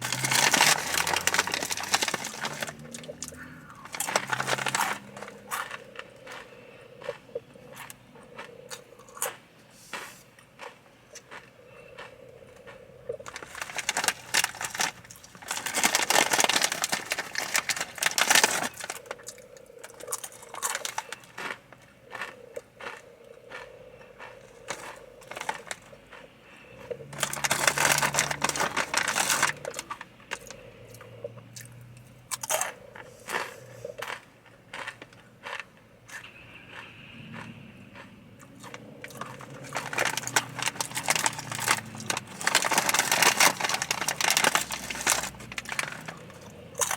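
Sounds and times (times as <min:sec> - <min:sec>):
chewing crunchy chips: 0:00.0 - 0:46.9.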